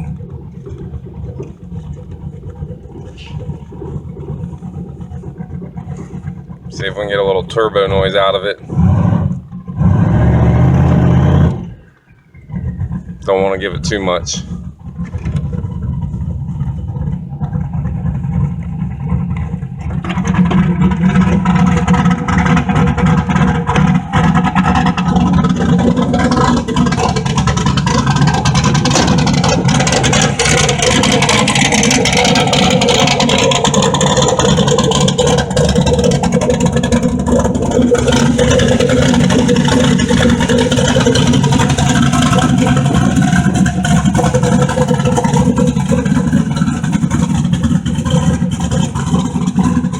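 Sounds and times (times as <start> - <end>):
car engine under throttle: 0.0 - 49.9.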